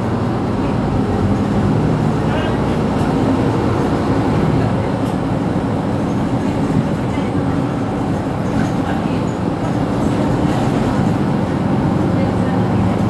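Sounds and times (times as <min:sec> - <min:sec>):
bus engine: 0:00.0 - 0:13.0
road noise: 0:00.0 - 0:13.0.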